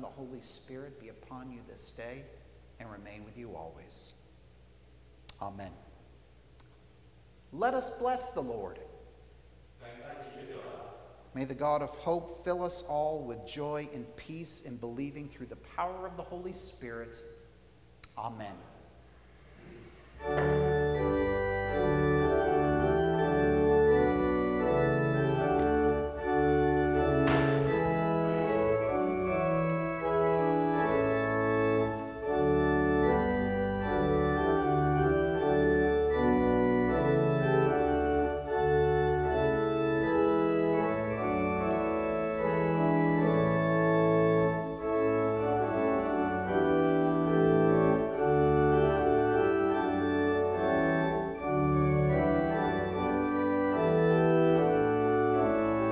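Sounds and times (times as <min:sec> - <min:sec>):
church organ chords: 0:00.0 - 0:04.2, 0:11.2 - 0:55.9.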